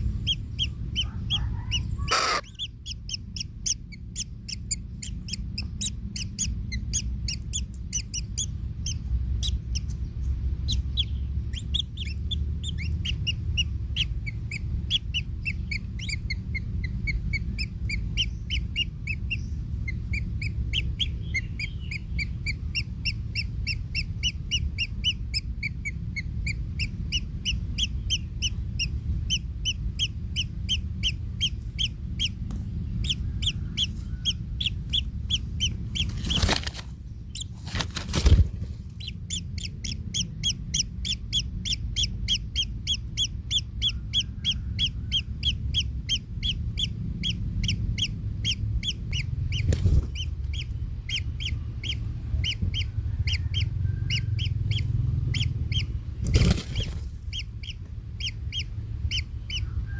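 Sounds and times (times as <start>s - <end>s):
kingfisher nestlings chirping: 0.0s - 59.9s
steady low rumble: 0.0s - 59.9s.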